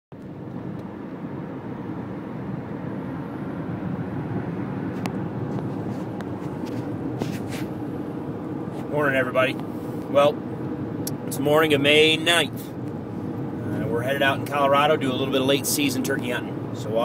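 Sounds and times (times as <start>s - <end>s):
car engine and tyres drone: 0.2s - 17.0s.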